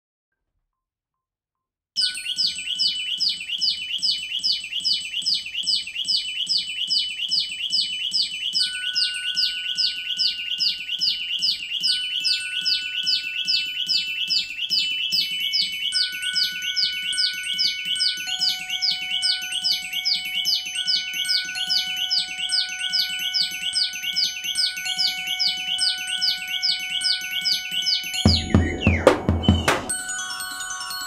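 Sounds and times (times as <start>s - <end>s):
glockenspiel notes ringing: 2.0s - 4.1s, 7.8s - 31.0s
bird chirping: 2.0s - 30.4s.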